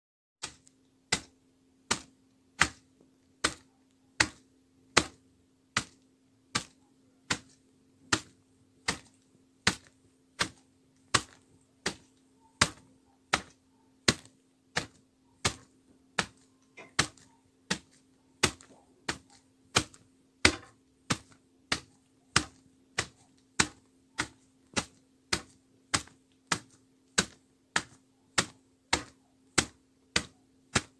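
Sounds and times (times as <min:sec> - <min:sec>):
faint low hum: 0:00.5 - 0:30.9.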